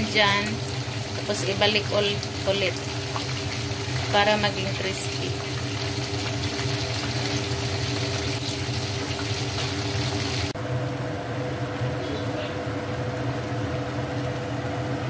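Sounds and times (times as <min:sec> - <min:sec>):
deep-frying crackling sizzle: 0:00.0 - 0:15.0
food simmering in a wok: 0:00.0 - 0:15.0.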